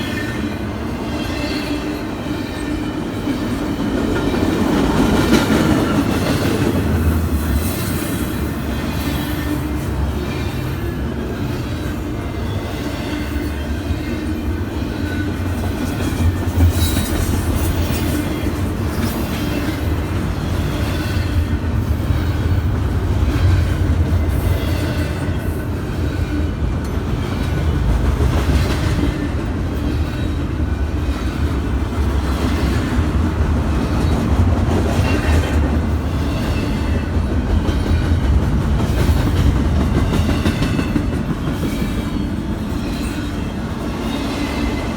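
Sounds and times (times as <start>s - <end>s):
train rumbling past: 0.0s - 44.9s.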